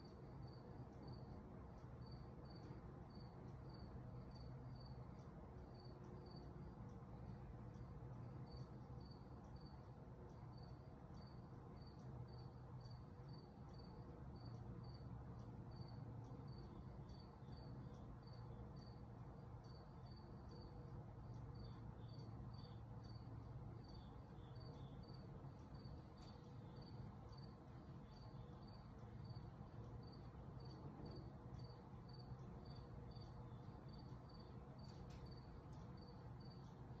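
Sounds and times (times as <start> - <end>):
high cricket chirps: 0.0 - 37.0
low steady hum: 0.0 - 37.0.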